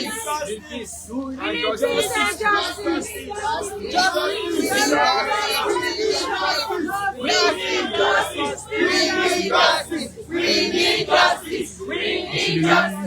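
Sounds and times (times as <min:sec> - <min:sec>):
crowd chanting: 0:00.0 - 0:13.0.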